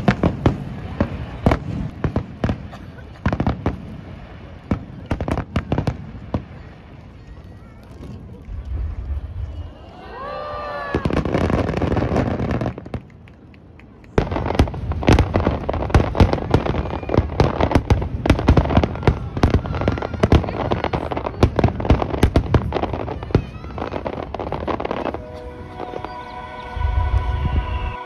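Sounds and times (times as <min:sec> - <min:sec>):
fireworks booms: 0:00.0 - 0:09.8, 0:10.7 - 0:13.2, 0:14.2 - 0:26.0
fireworks bangs and crackles: 0:00.0 - 0:26.2.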